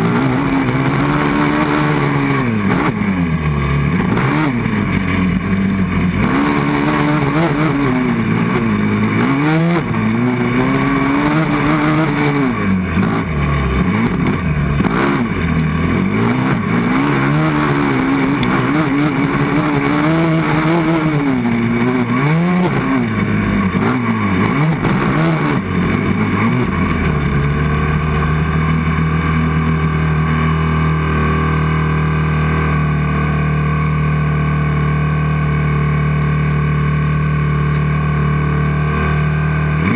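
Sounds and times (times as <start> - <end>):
quad engine revving and idling: 0.0 - 39.9.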